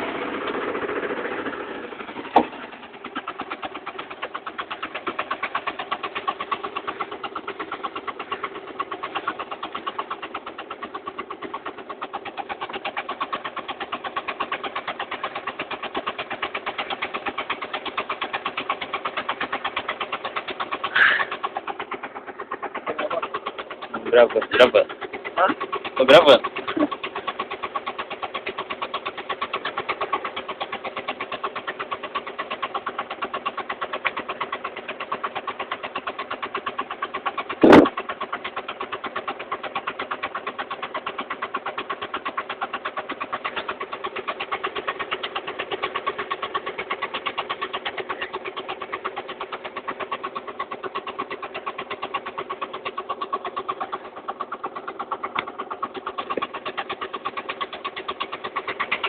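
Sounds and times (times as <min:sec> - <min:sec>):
engine idling with rapid pulsing: 0:00.0 - 0:59.0.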